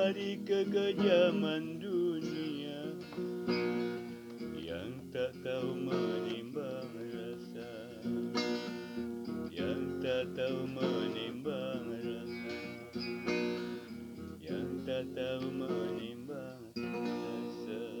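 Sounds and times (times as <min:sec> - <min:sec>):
guitar strumming: 0:00.0 - 0:18.0.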